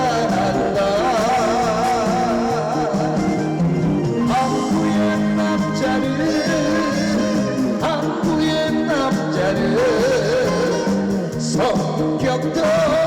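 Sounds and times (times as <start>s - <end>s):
amplified backing music: 0.0s - 13.0s
man singing with vibrato: 0.0s - 13.0s.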